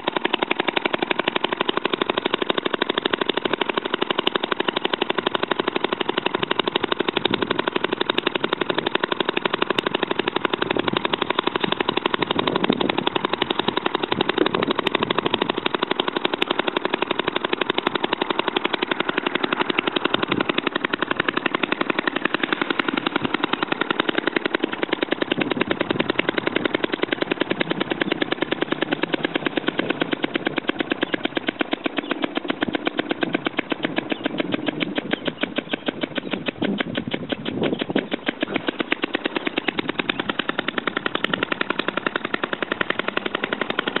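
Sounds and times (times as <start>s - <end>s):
model engine firing sharp pops: 0.0s - 44.0s.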